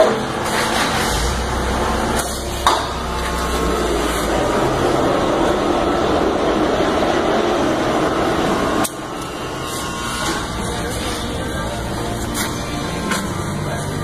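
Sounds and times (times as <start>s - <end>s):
mechanical hum with low rumble: 0.0s - 14.0s.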